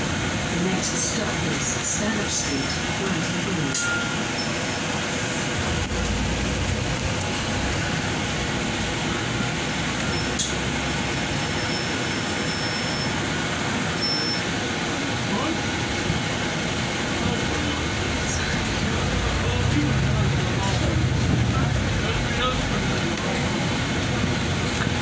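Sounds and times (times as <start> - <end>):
bus engine and road noise: 0.0 - 25.0.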